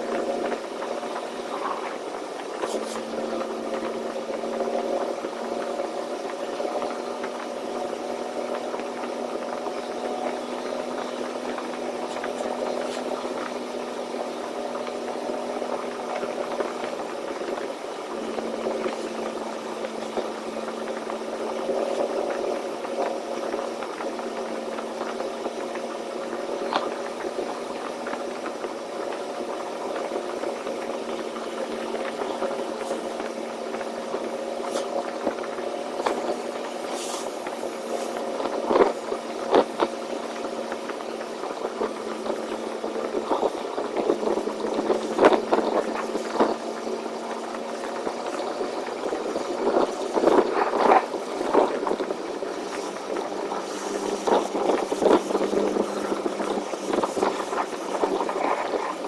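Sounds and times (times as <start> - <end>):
truck engine drone: 0.0 - 59.0.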